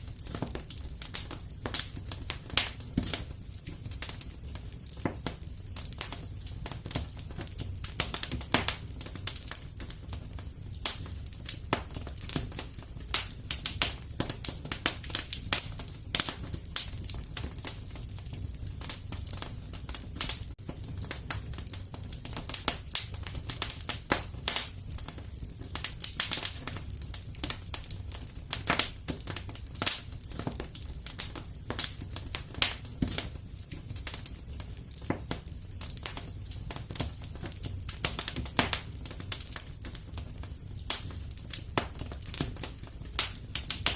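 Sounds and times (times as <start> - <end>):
fire flames rumbling: 0.0 - 43.9
wood fire pops and snaps: 0.0 - 43.9.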